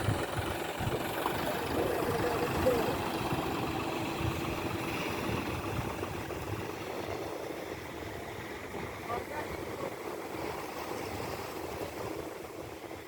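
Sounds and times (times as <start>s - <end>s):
engine rumbling: 0.0s - 12.2s.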